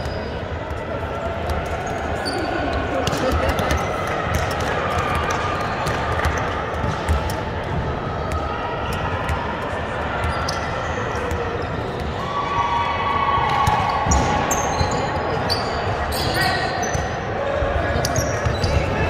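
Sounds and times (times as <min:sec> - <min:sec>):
basketballs bouncing on court: 0:00.0 - 0:12.2, 0:13.4 - 0:19.0
voices in background: 0:00.0 - 0:19.0.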